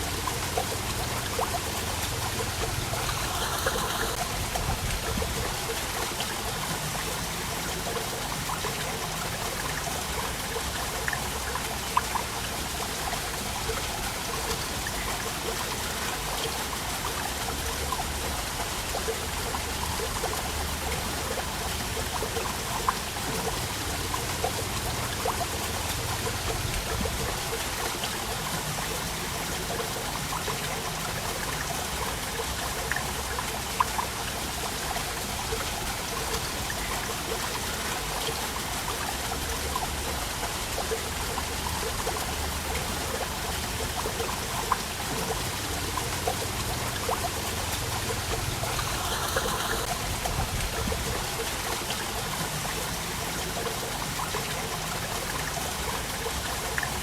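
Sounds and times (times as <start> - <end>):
water splashes and drips: 0.0 - 57.0
waterfall rushing: 0.0 - 57.0.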